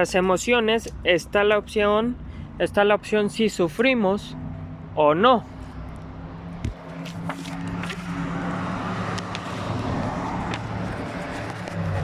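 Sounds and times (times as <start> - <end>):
traffic rushing: 0.0 - 12.0
vehicle engine humming: 2.2 - 12.0.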